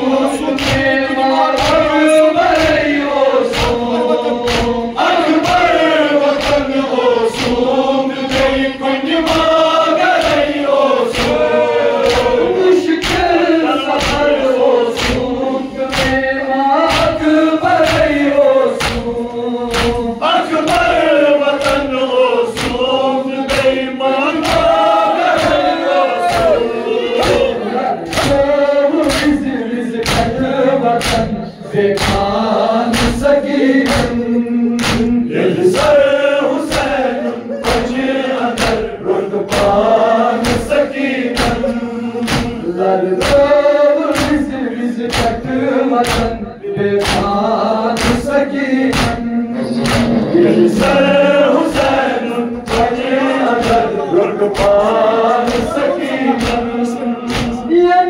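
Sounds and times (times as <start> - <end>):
men's chorus singing a lament: 0.0 - 58.0
rhythmic chest-beating strikes: 0.0 - 58.0.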